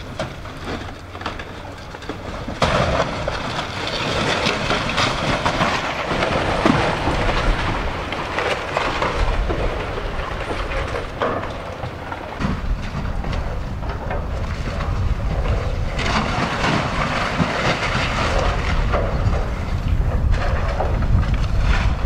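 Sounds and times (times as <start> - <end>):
debris crashing and clattering: 0.0 - 22.0.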